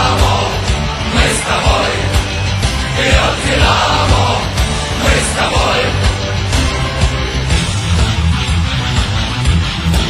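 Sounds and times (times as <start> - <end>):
rock song: 0.0 - 10.0
steady drum beat: 0.0 - 10.0.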